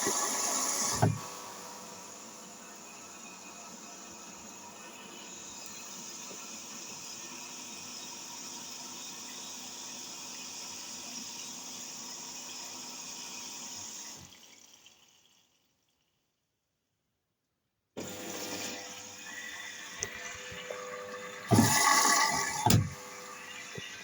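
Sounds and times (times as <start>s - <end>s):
water running into washing machine: 0.0s - 16.0s, 18.0s - 24.0s.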